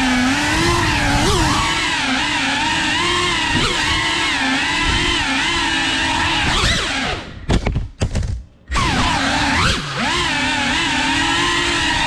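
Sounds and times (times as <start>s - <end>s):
drone propeller motors whining: 0.0s - 7.5s, 8.7s - 12.0s.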